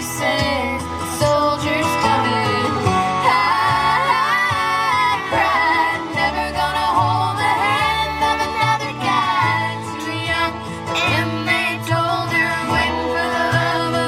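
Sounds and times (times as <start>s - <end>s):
acoustic backing music: 0.0s - 14.0s
woman singing country ballad: 0.0s - 14.0s.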